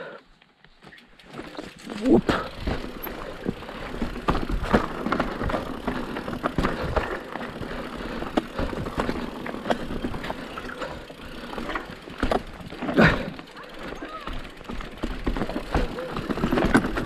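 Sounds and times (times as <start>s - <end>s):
bike tyres on dirt trail: 0.0s - 17.0s
bike clacking and rattling: 0.8s - 17.0s.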